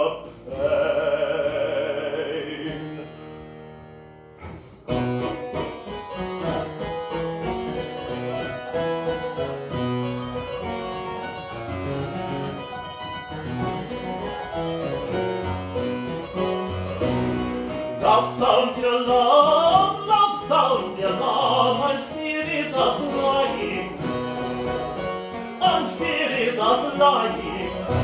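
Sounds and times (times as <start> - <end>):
harpsichord playing: 4.9 - 28.0.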